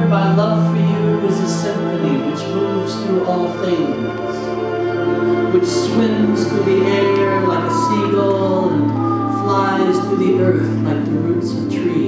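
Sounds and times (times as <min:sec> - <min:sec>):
low drone: 0:00.0 - 0:12.0
person singing wavering line: 0:00.0 - 0:12.0.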